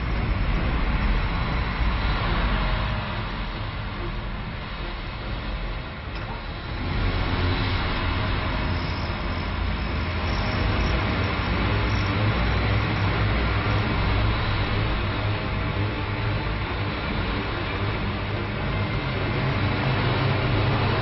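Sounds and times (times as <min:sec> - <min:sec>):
aircraft turbine engine roar: 0:00.0 - 0:21.0.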